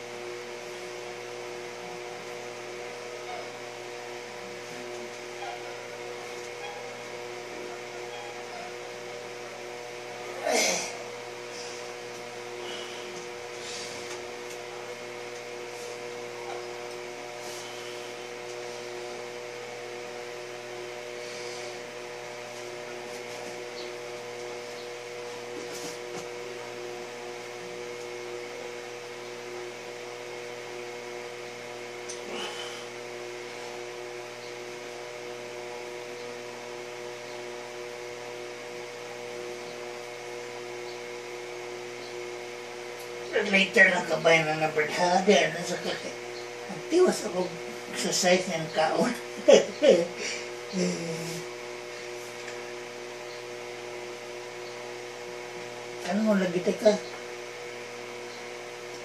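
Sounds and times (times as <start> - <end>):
machine hum: 0.0 - 59.0.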